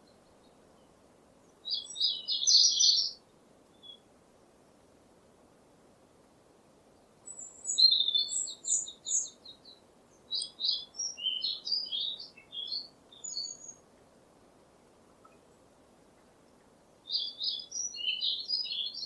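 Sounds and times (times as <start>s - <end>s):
songbird singing: 0.0s - 4.1s, 6.9s - 14.2s, 14.8s - 19.0s.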